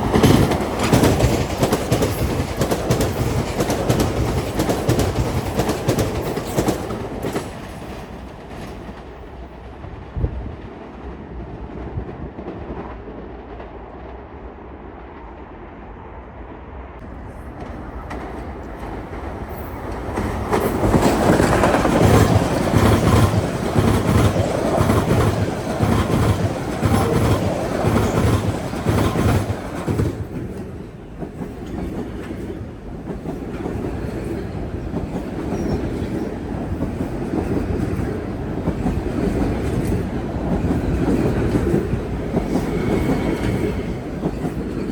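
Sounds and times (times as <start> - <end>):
train wheels clicking over rail joints: 0.0 - 9.6, 17.3 - 44.9.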